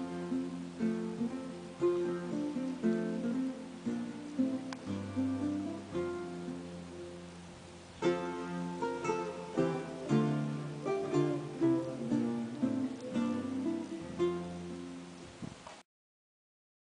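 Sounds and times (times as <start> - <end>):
acoustic guitar strumming: 0.0 - 15.2.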